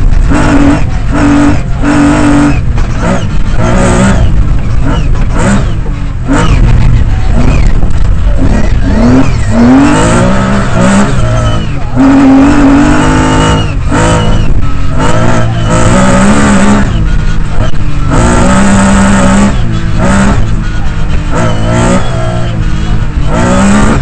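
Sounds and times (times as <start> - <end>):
rally car engine revving: 0.0 - 24.0
road noise: 0.0 - 24.0.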